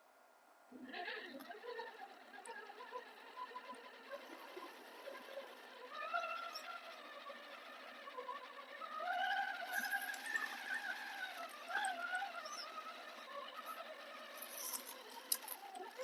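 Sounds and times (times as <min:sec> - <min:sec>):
electric motor whining: 0:01.0 - 0:16.0.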